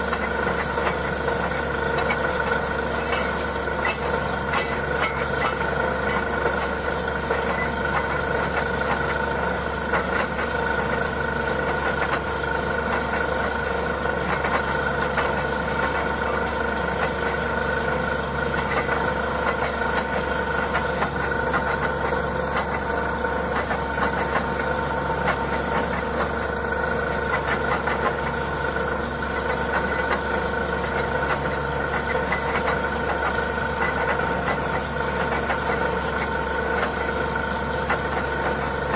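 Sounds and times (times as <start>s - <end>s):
drilling rig engine droning: 0.0s - 38.9s.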